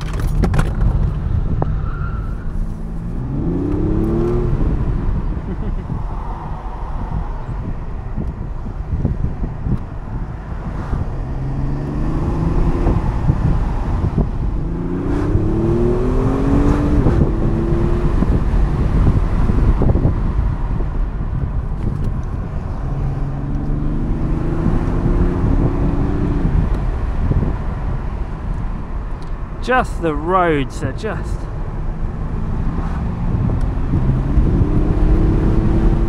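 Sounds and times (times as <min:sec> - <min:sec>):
road and wind noise: 0:00.0 - 0:36.0
car engine revving: 0:02.5 - 0:30.3, 0:31.8 - 0:36.0.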